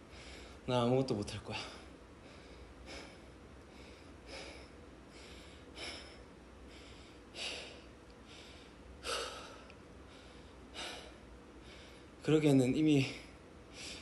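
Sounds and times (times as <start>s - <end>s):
man breathing hard: 0.0s - 0.6s, 1.5s - 12.2s, 13.0s - 14.0s.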